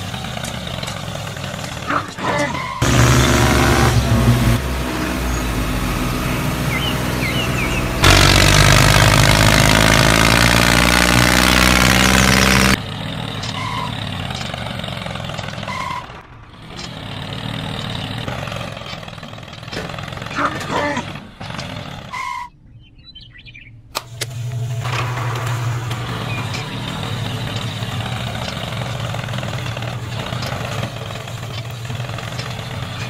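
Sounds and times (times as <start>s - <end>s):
tractor engine running: 0.0s - 22.4s, 24.0s - 33.0s.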